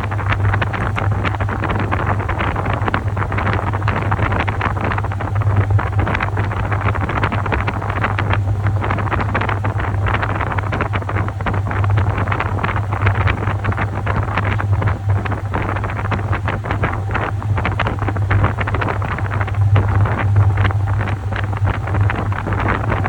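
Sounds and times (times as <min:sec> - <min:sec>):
washing machine motor hum: 0:00.0 - 0:23.0
water churning and sloshing: 0:00.0 - 0:23.0.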